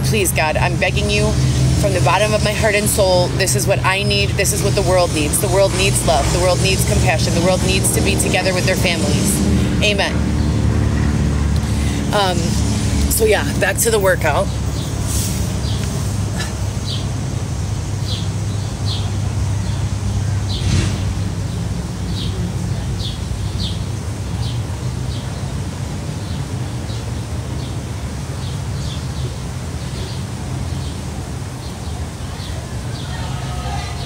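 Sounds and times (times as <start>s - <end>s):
low outdoor rumble: 0.0s - 34.0s
small birds chirping: 0.0s - 34.0s.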